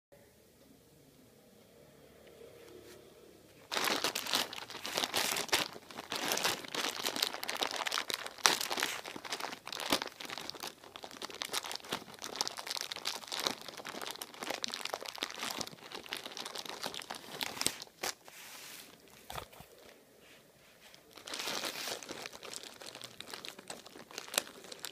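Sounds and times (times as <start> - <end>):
plastic snack bag crinkling: 3.6 - 19.9, 20.9 - 24.9
nuts and sweets shifting: 3.6 - 24.9.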